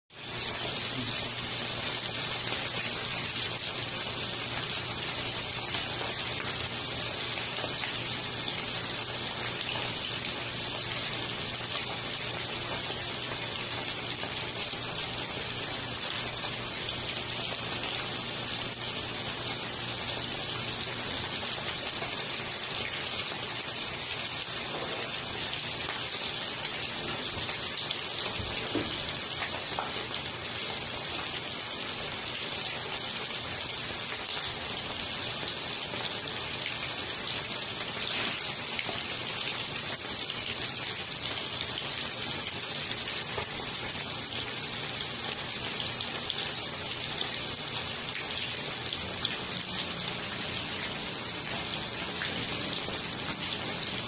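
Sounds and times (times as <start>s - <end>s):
chicken frying in hot oil: 0.1s - 54.0s.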